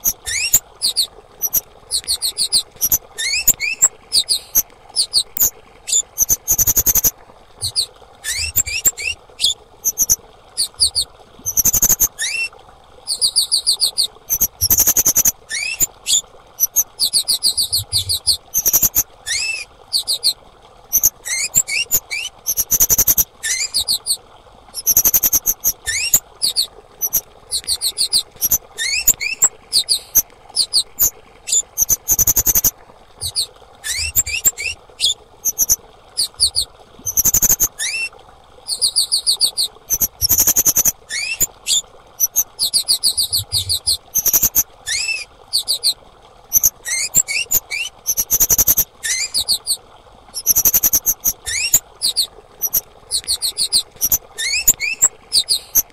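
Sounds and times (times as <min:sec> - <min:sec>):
songbird chirping high-pitched: 0:00.0 - 0:12.5, 0:13.1 - 0:24.1, 0:24.8 - 0:38.1, 0:38.7 - 0:49.7, 0:50.4 - 0:55.8.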